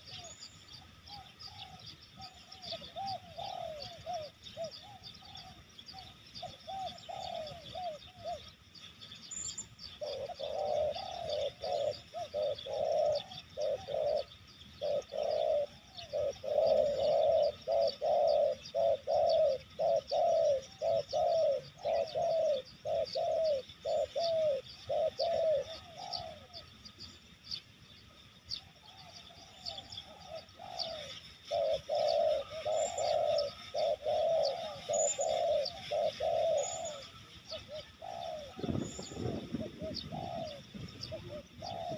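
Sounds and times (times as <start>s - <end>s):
doves cooing: 0.0s - 8.7s, 9.6s - 27.1s, 28.1s - 41.9s.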